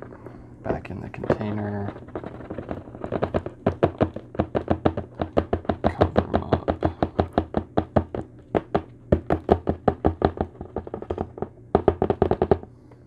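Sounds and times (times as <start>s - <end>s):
plastic knocking on plastic: 0.0s - 12.7s.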